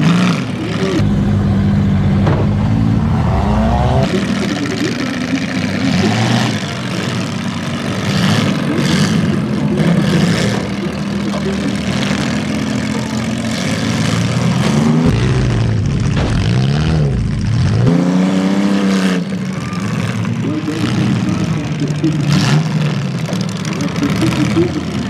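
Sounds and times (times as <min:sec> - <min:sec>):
car engines revving high: 0:00.0 - 0:25.0.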